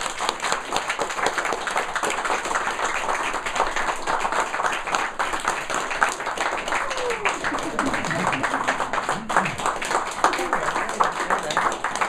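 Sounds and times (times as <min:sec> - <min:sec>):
group of people applauding: 0:00.0 - 0:12.0.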